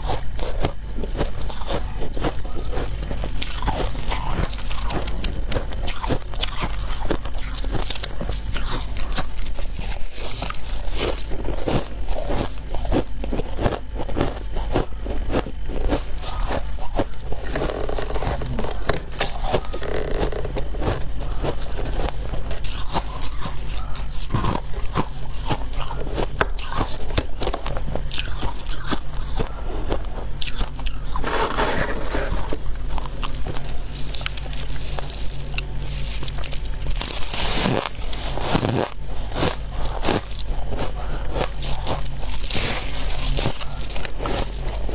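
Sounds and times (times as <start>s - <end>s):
frost being bitten and chewed: 0.0s - 44.9s.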